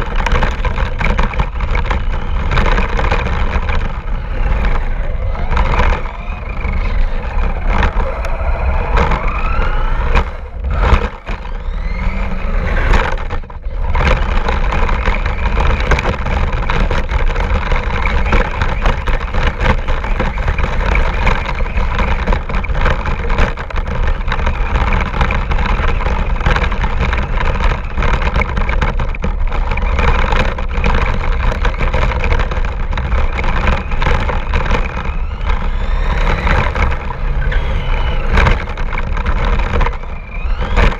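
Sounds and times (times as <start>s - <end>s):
radio-controlled car motor whine: 0.0s - 40.9s
rumble and rattle from terrain: 0.0s - 40.9s.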